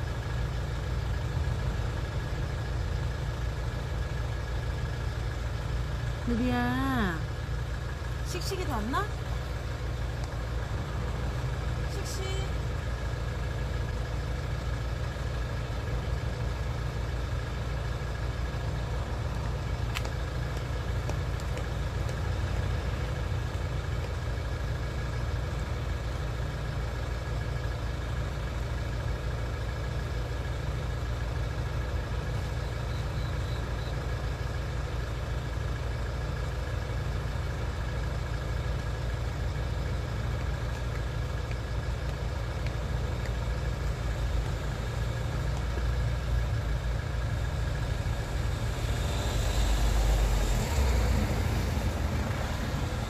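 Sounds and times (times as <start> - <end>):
low mechanical rumble: 0.0 - 53.0.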